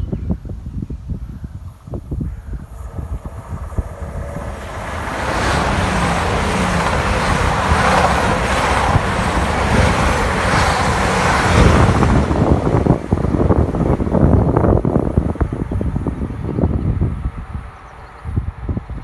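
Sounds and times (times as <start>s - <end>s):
diesel train passing: 1.7s - 19.0s.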